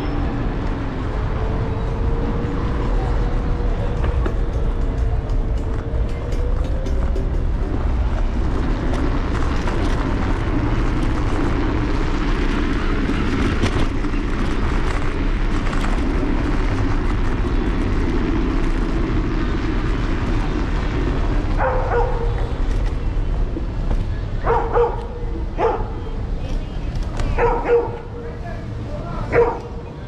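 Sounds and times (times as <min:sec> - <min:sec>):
road rumble: 0:00.0 - 0:30.0
traffic: 0:00.0 - 0:30.0.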